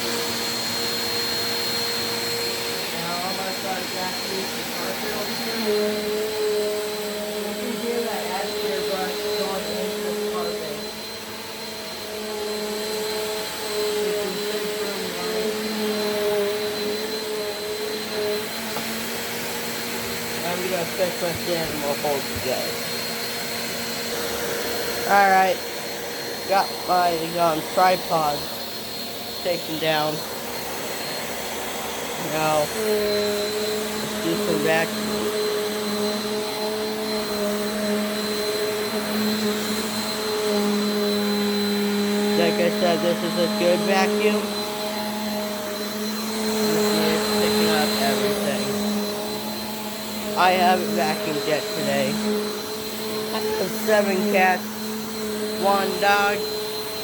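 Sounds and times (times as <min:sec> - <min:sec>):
vacuum cleaner on carpet: 0:00.0 - 0:57.0.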